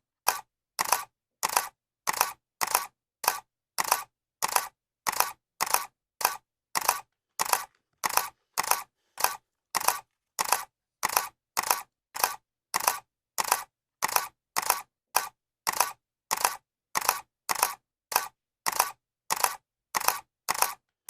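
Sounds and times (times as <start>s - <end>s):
camera shutter clicking: 0.3s - 20.8s.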